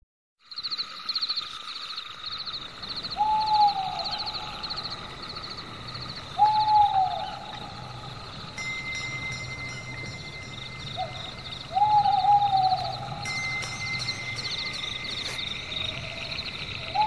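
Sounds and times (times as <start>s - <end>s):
insects chirping: 0.4s - 17.0s.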